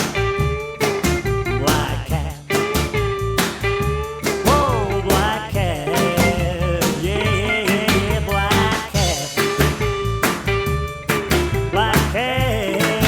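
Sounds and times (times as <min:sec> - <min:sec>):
bass line: 0:00.0 - 0:13.0
bending electric guitar: 0:00.0 - 0:13.0
instrumental rock music: 0:00.0 - 0:13.0
steady drum beat: 0:00.0 - 0:13.0.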